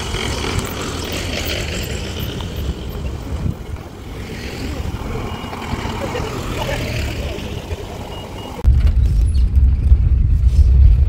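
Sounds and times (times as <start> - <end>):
vehicle engines driving past: 0.0 - 11.0.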